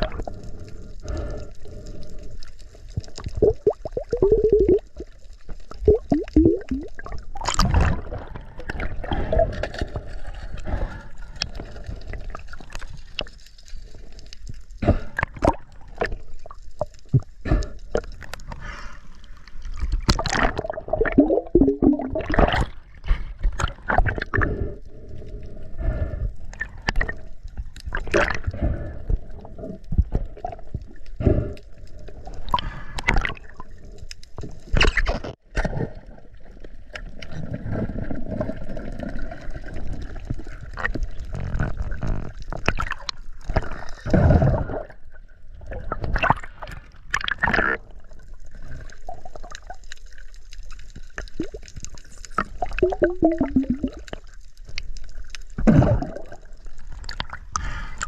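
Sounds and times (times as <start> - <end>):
sea water sloshing and gurgling: 0.0 - 58.0
water splashes and bubbling: 0.0 - 58.0.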